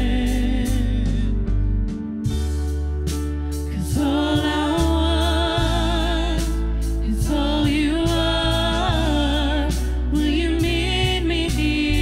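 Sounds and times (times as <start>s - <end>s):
person singing with vibrato: 0.0s - 1.6s, 3.7s - 12.0s
bass: 0.0s - 12.0s
drums: 0.0s - 12.0s
keyboard: 0.0s - 12.0s.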